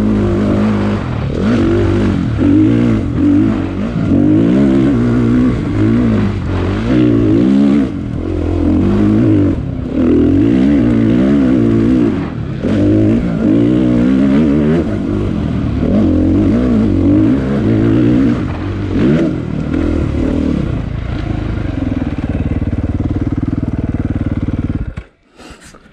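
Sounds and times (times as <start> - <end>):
dirt bike engine revving: 0.0 - 25.2.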